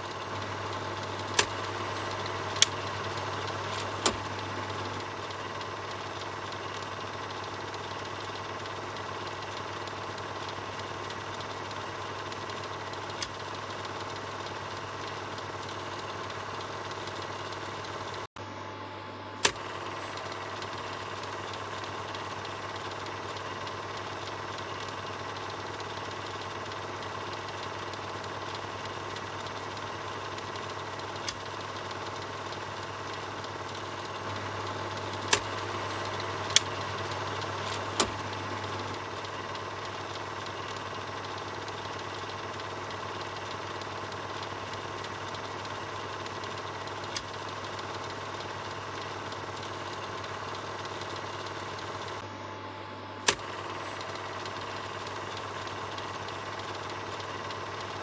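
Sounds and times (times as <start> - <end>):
sharp clicks: 0.0 - 18.3, 19.4 - 52.2, 53.2 - 58.0
film projector whirring: 0.0 - 58.0.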